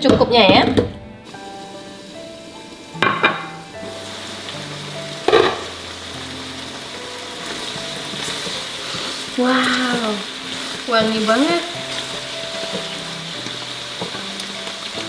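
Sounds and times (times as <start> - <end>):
background music with held notes: 0.0 - 15.0
food sizzling in a frying pan: 1.2 - 15.0.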